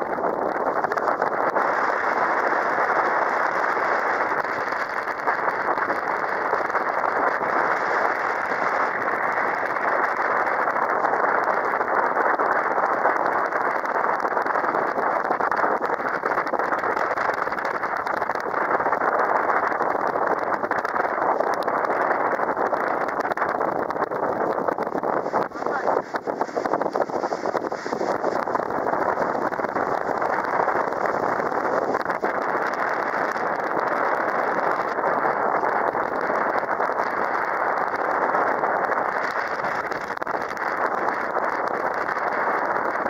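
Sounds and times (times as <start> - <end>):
water along boat hull: 0.0 - 43.0
wind over microphone: 0.0 - 43.0.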